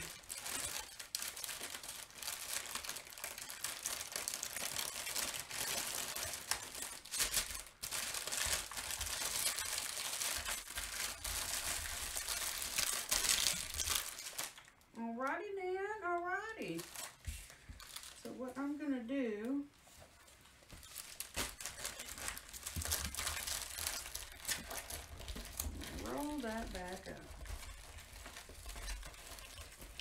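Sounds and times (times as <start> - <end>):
plastic bags crinkling: 0.0 - 14.9, 16.0 - 18.4, 19.5 - 30.0.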